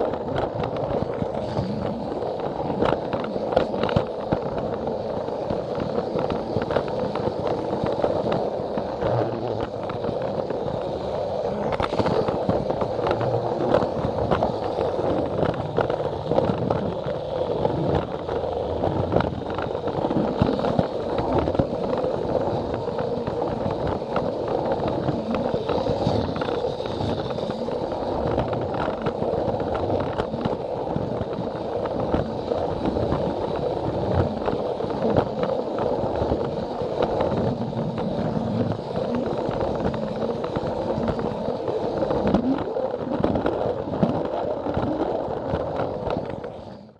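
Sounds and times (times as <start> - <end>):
wheels clicking over rail joints: 0.0 - 46.8.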